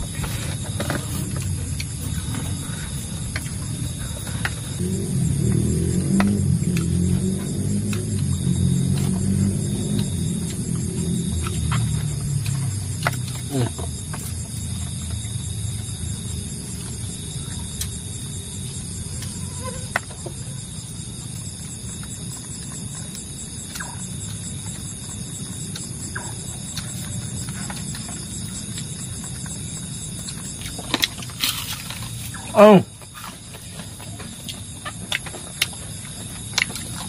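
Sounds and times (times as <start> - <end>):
low steady rumble: 0.0 - 37.0
night insects chirring: 0.0 - 37.0.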